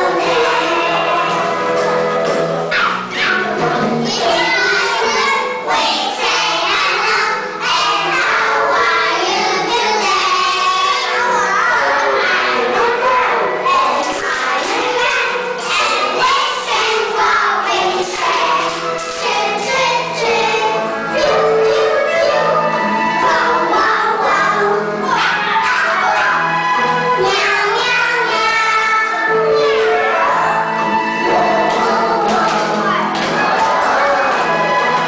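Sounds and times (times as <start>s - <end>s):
children singing in chorus: 0.0s - 2.3s, 3.1s - 35.0s
musical accompaniment with bass: 0.0s - 35.0s.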